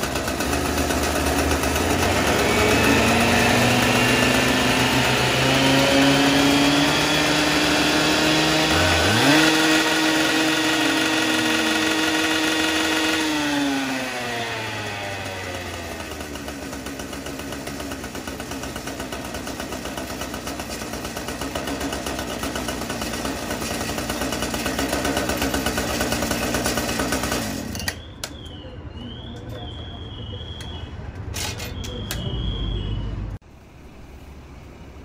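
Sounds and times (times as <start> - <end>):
cut-off saws running: 0.0 - 28.1.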